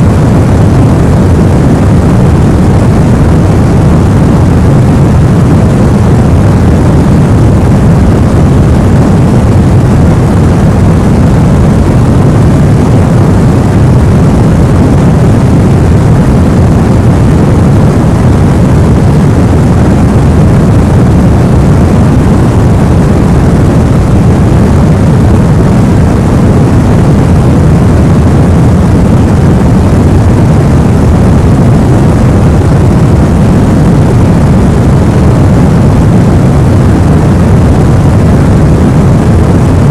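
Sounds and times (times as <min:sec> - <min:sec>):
white noise rushing hiss: 0:00.0 - 0:39.9.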